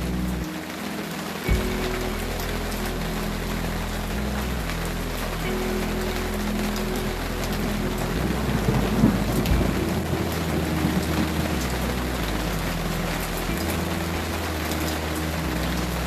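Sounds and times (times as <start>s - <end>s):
steady rain: 0.0s - 16.0s
thunder rumble: 1.5s - 16.0s.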